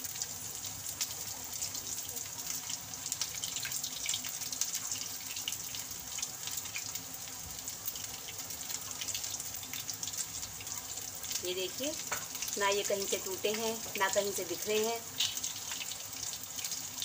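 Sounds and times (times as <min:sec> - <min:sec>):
hot oil sizzling and crackling: 0:00.0 - 0:17.0.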